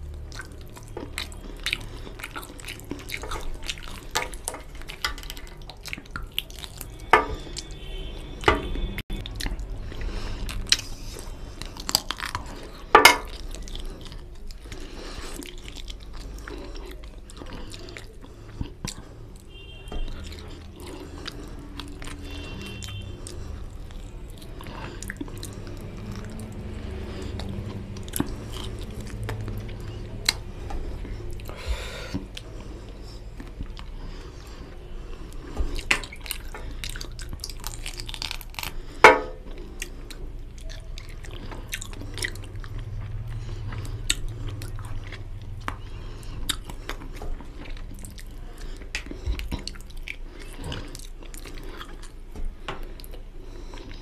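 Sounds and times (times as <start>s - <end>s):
chewing and wet mouth sounds: 0.0s - 54.0s.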